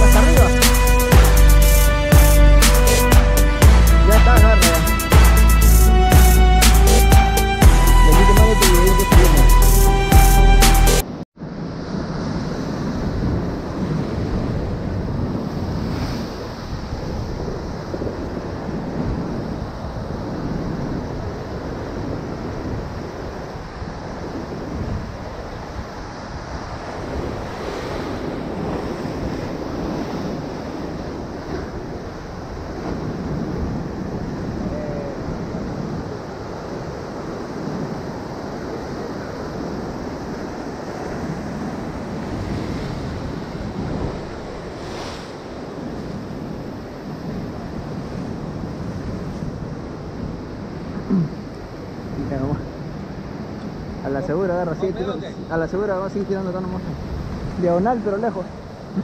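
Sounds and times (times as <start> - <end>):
sea waves breaking over rocks: 11.4 - 59.0
wind buffeting microphone: 11.4 - 59.0.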